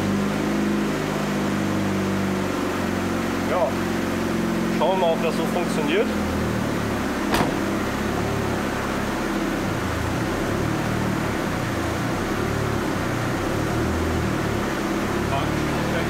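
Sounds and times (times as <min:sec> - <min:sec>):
car engine running on a dyno: 0:00.0 - 0:16.0.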